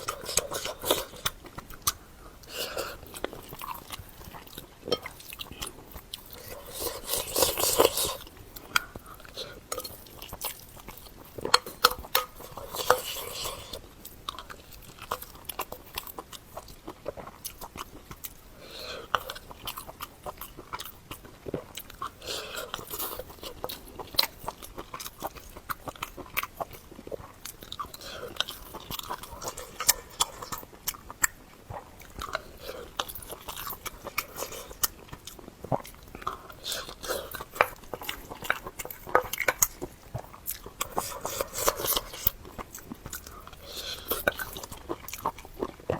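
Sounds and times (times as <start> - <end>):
person chewing and crunching: 0.0 - 45.9.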